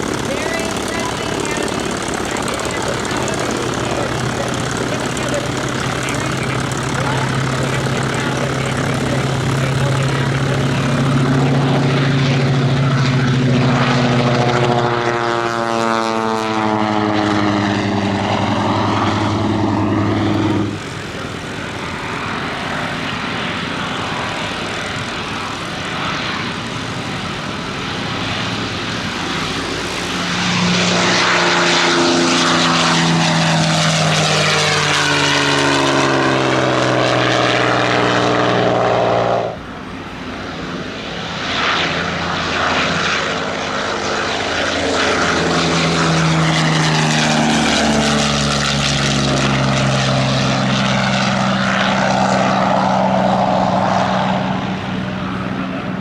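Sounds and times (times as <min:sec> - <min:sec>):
piston aircraft engine passing: 0:00.0 - 0:56.0
quieter engine sound: 0:00.0 - 0:56.0
radial aircraft engine passing: 0:00.0 - 0:56.0.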